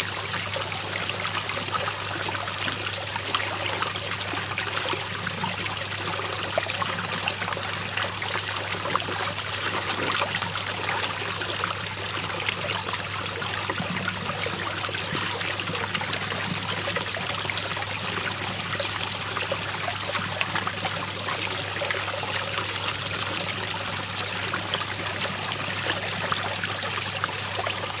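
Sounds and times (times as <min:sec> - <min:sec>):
water swirling and draining: 0:00.0 - 0:28.0.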